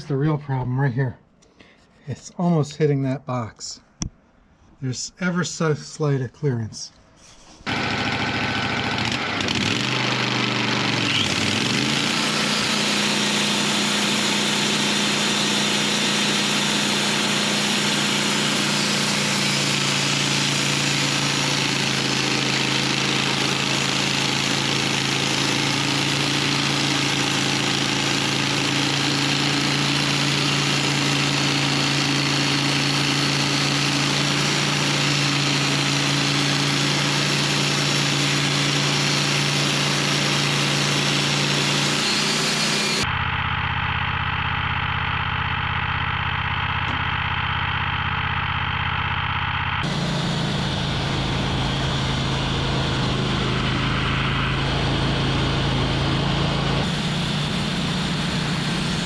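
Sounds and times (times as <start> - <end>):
sawmill engine running: 7.6 - 59.0.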